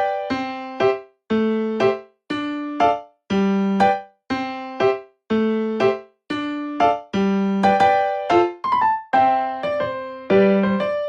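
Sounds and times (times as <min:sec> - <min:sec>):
electric piano tune: 0:00.0 - 0:11.0.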